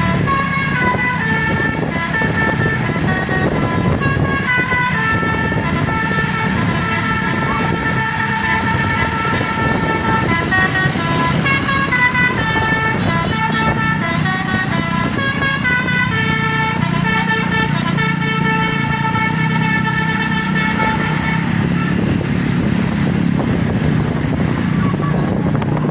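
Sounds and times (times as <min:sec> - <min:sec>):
musical air horn: 0:00.0 - 0:22.3
bus engine running: 0:00.0 - 0:25.9.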